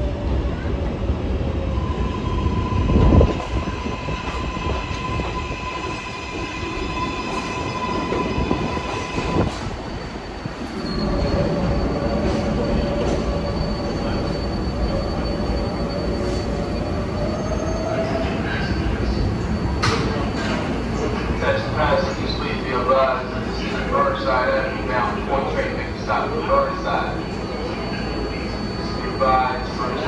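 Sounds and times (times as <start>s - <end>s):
subway train wheels squealing: 0.0s - 30.0s.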